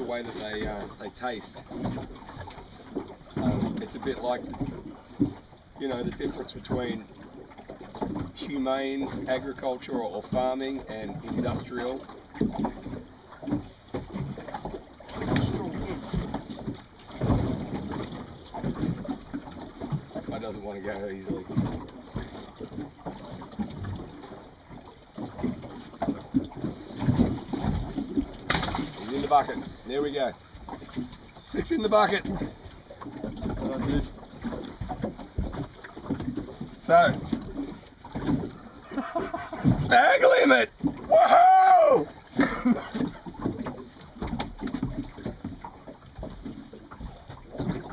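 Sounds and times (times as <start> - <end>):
water slapping against boat hull: 0.0 - 47.9.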